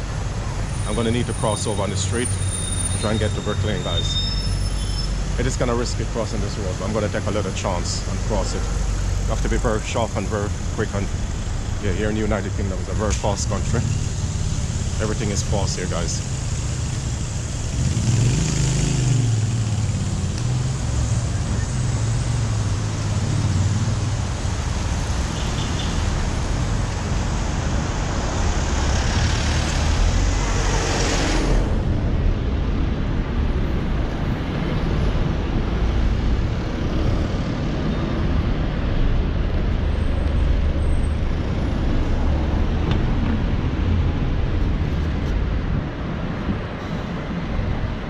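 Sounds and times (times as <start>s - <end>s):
cars and buses passing: 0.0s - 48.0s
low traffic rumble: 0.0s - 48.0s.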